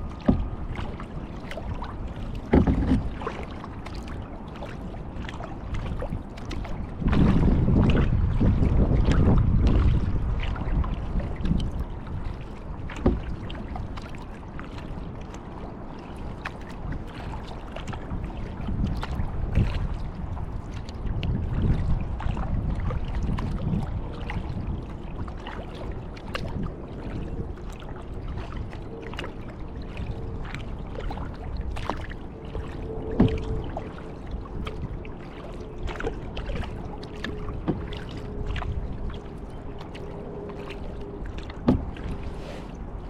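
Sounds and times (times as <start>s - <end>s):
paddle strokes through water: 0.0s - 43.0s
water drips and splashes: 0.0s - 43.0s
wind rumble on microphone: 0.0s - 43.0s.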